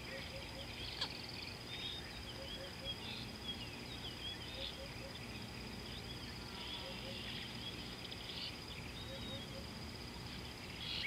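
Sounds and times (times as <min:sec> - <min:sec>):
chirping bird calls: 0:00.0 - 0:11.0.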